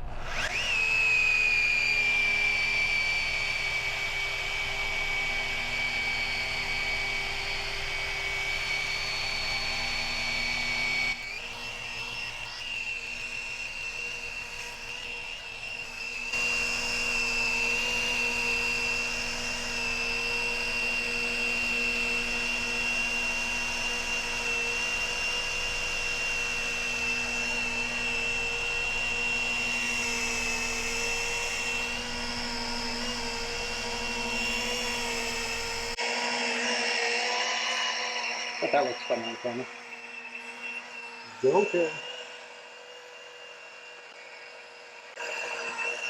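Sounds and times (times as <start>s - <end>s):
rotary polisher motor whine: 0.0s - 46.0s.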